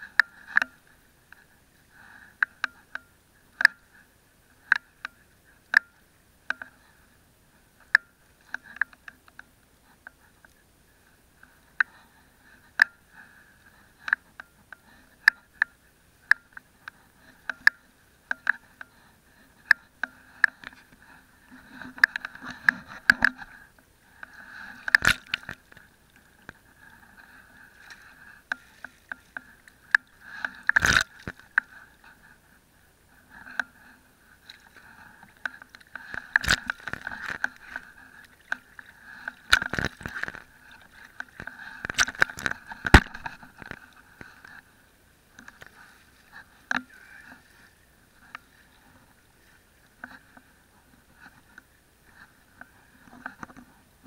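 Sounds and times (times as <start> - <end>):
wading through shallow water: 0.0 - 54.0.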